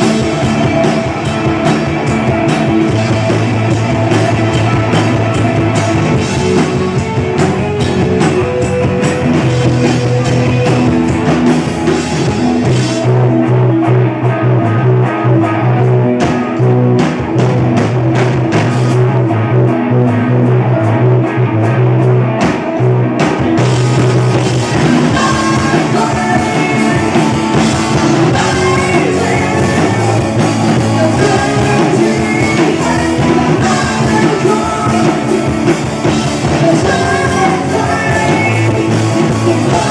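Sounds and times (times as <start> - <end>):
rock band with singing: 0.0 - 39.9.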